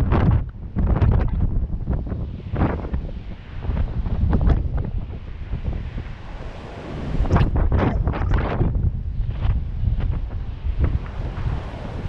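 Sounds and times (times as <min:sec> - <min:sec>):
heavy surf: 0:00.0 - 0:12.0
wind buffeting microphone: 0:00.0 - 0:12.0.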